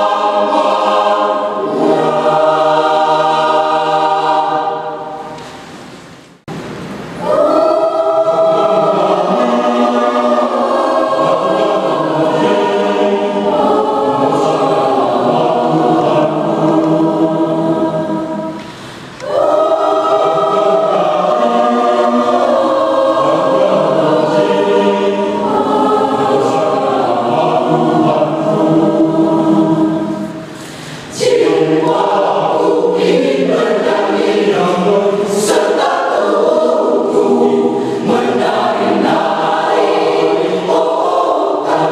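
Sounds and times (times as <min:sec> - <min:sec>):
choir singing in parts: 0:00.0 - 0:41.9.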